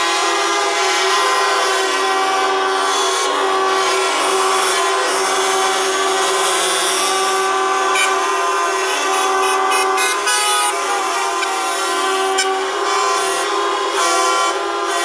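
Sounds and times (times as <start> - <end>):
truck horns blasting: 0.0 - 15.0.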